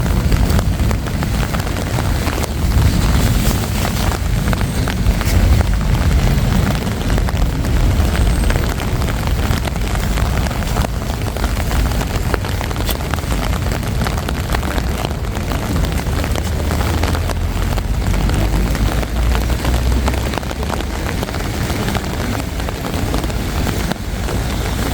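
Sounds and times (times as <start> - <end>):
traffic rumble: 0.0 - 24.9.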